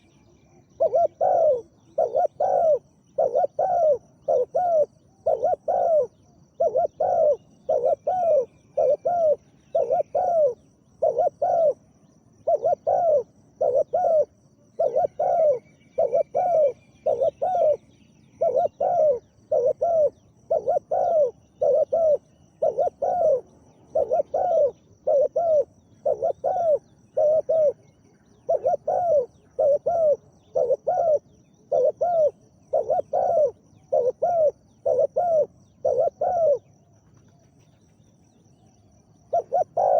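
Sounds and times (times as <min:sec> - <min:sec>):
doves cooing: 0:00.0 - 0:38.0, 0:39.1 - 0:39.9
faint high chirp: 0:00.0 - 0:39.9.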